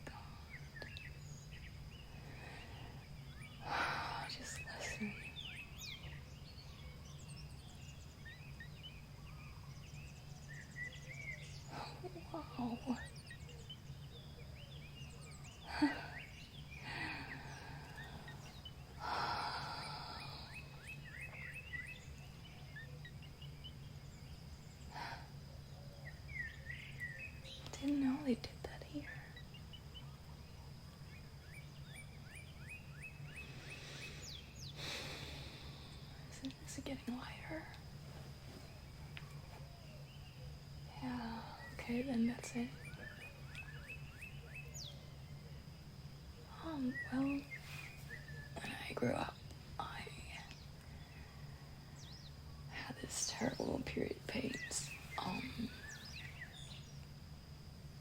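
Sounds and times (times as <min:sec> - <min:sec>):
soft hiss: 0:00.0 - 0:58.0
songbirds chirping and whistling: 0:00.0 - 0:58.0
steady low hum: 0:00.0 - 0:58.0.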